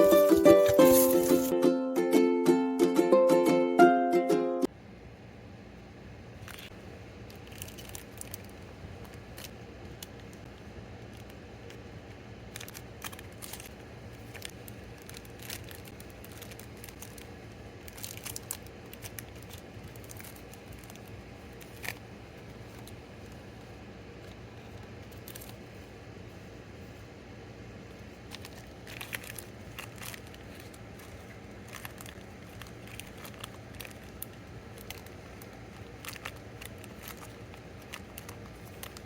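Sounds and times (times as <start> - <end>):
packaging crinkling and rustling: 0.0 - 1.6, 6.4 - 11.8, 12.5 - 25.9, 28.0 - 39.0
faint steady hum: 0.0 - 39.0.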